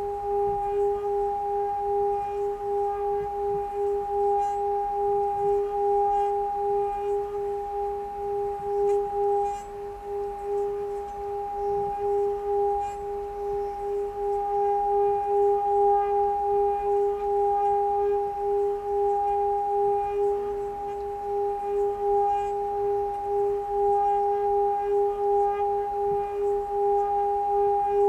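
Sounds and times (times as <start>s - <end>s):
singing bowl sustained tone: 0.0s - 28.0s.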